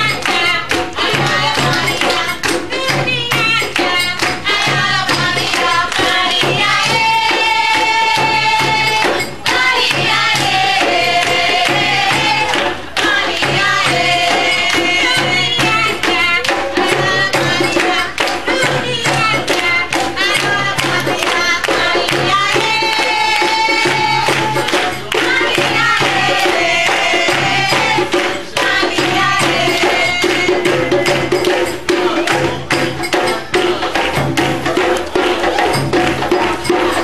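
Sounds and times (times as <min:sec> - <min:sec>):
hand drums beating: 0:00.0 - 0:37.0
jingling tambourine: 0:00.0 - 0:37.0
voices singing: 0:00.0 - 0:37.0.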